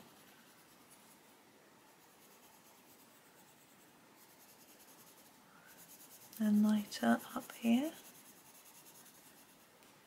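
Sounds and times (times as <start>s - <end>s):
pencil scratching on paper: 0.0s - 9.7s.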